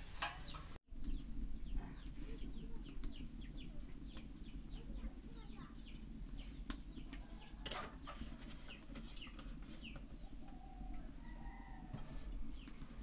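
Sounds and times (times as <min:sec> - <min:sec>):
small birds chirping: 0:00.2 - 0:13.0.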